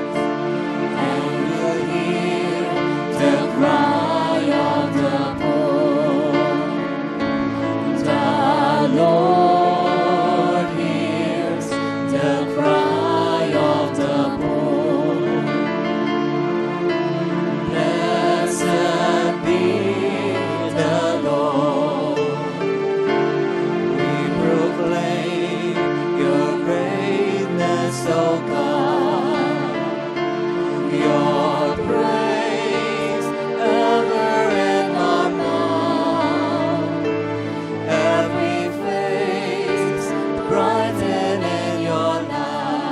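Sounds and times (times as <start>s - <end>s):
sustained musical accompaniment: 0.0s - 42.9s
worship song singing: 0.0s - 42.9s.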